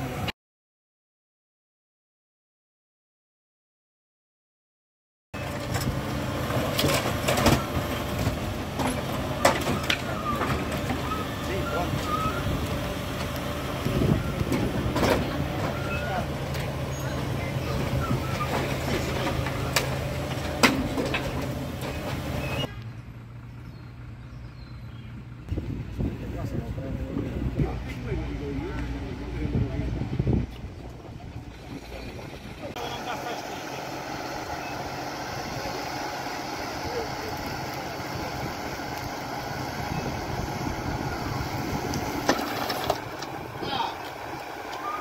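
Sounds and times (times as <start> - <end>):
truck engine running: 5.4 - 45.0.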